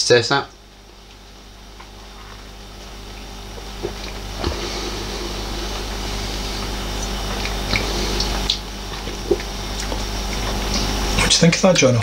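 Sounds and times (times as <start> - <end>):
low electrical hum and hiss: 0.0 - 12.0
beer drinking gulps and clicks: 1.8 - 12.0.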